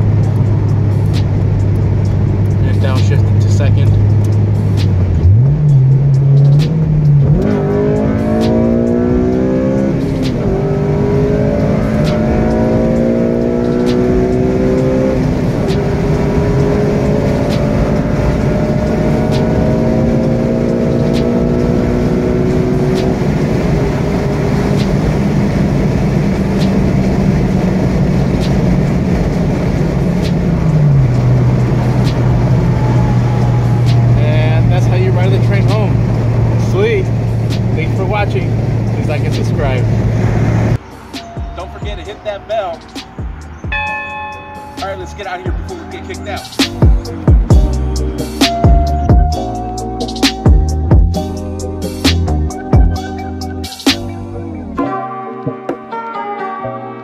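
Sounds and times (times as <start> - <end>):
car engine accelerating: 0.0 - 54.8.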